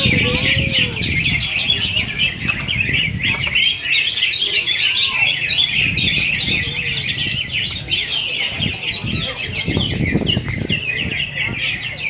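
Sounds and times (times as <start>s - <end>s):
crowd murmur: 0.0s - 12.0s
songbirds singing: 0.0s - 12.0s.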